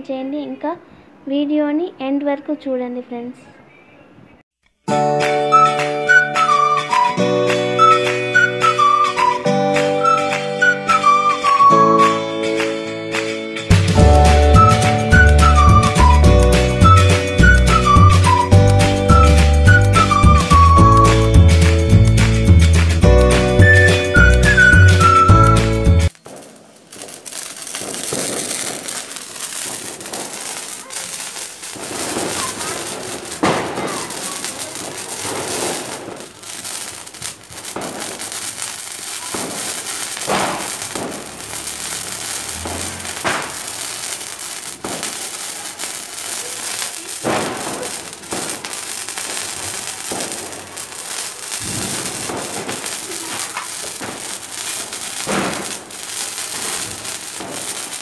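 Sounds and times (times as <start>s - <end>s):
fireworks crackling and popping: 4.6s - 58.0s
fountain fireworks hissing: 5.2s - 58.0s.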